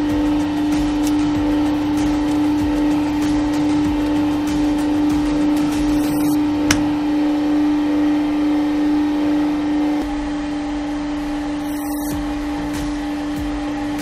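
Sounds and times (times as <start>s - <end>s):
hydraulic press motor humming: 0.0s - 8.5s, 9.4s - 14.0s.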